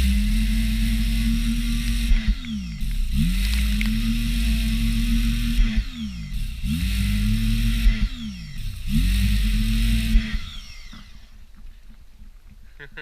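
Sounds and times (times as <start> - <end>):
electric power tool motor whining: 0.0 - 11.4.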